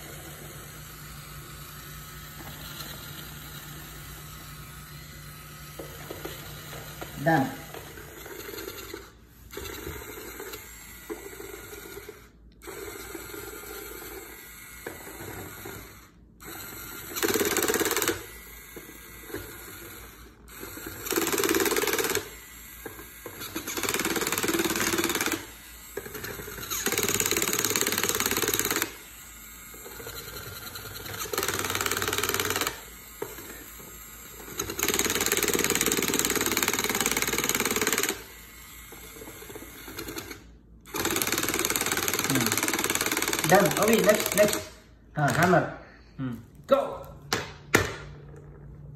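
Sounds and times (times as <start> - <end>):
toy drill whirring: 0.0 - 45.6.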